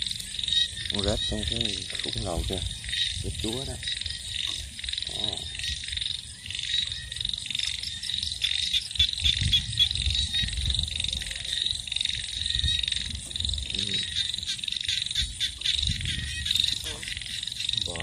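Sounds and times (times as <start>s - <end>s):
frogs and insects trilling: 0.0s - 18.0s.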